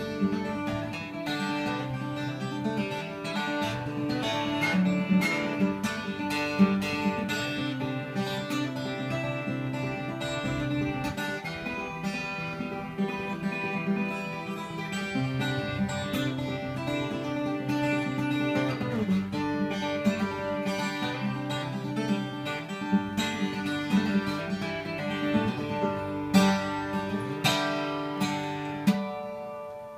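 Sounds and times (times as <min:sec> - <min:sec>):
loud strummed guitar chords: 0:00.0 - 0:29.9
twelve-string acoustic guitar: 0:00.0 - 0:29.9.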